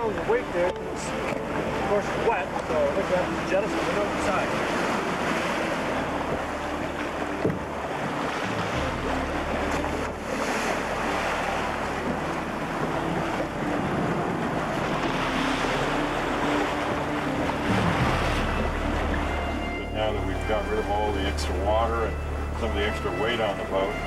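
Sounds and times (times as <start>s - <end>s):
sea rushing past boat: 0.0s - 24.0s.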